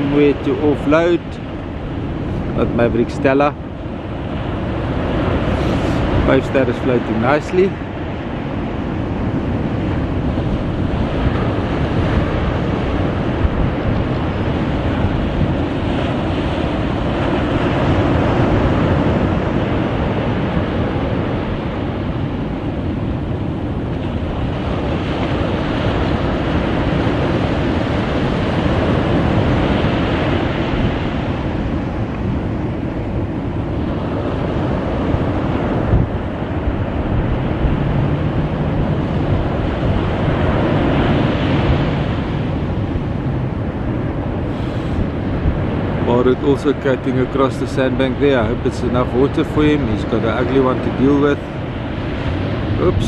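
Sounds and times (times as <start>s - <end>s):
rough surf breaking: 0.0s - 53.0s
wind buffeting microphone: 0.0s - 53.0s.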